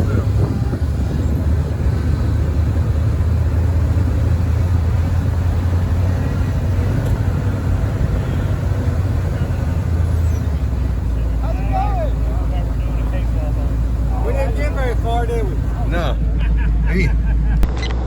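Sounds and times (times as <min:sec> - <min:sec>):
car engine drone: 0:00.0 - 0:18.0
road noise: 0:00.0 - 0:18.0.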